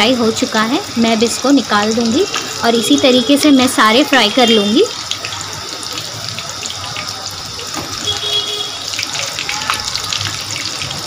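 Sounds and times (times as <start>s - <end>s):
bread deep-frying in hot oil: 0.0s - 11.0s
oil crackling: 0.0s - 11.0s.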